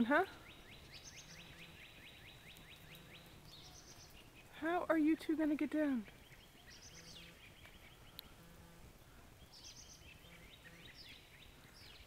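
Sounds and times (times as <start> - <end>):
faint high bird chirps: 0.2 - 5.0, 6.0 - 8.6, 9.4 - 12.0.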